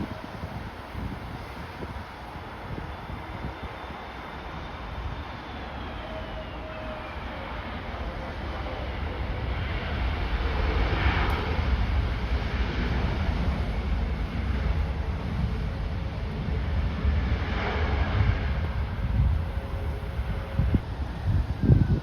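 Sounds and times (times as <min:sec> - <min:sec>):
jet airliner engine whine: 0:00.0 - 0:22.0
wind rumble on microphone: 0:00.0 - 0:22.0.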